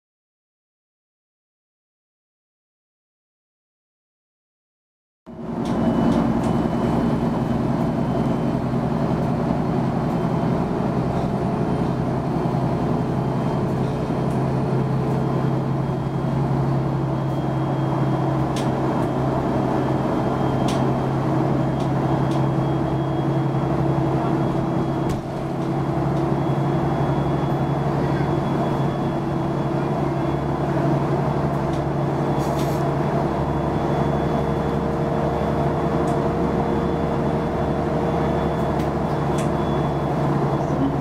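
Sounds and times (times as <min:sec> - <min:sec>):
bus diesel engine running: 0:05.3 - 0:41.0.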